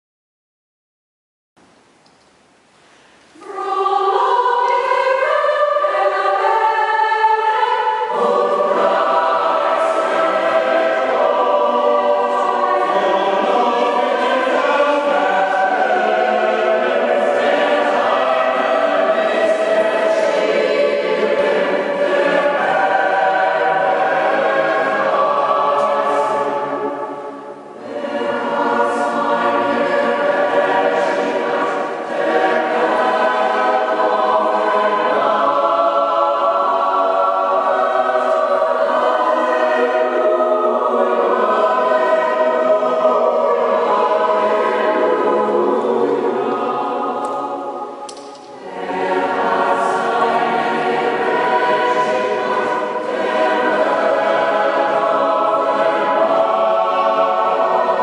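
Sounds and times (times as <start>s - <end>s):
mixed choir singing: 3.4s - 58.0s.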